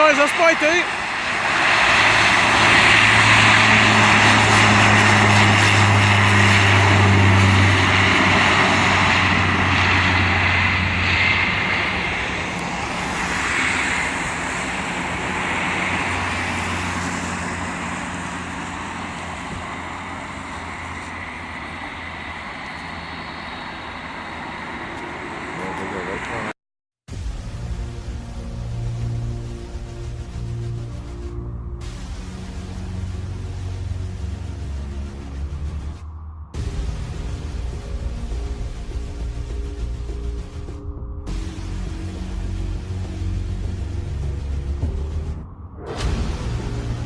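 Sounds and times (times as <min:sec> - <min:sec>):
turboprop engines roaring: 0:00.0 - 0:47.0.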